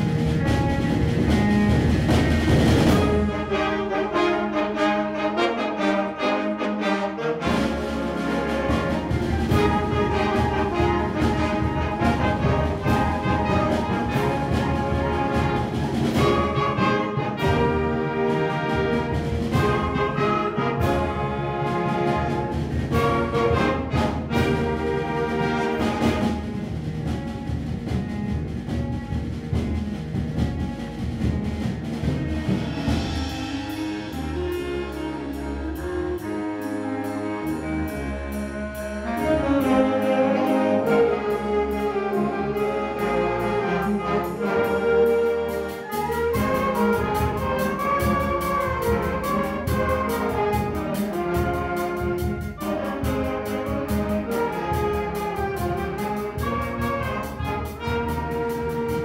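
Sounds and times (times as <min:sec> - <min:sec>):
brass-led orchestral music: 0:00.0 - 0:59.0.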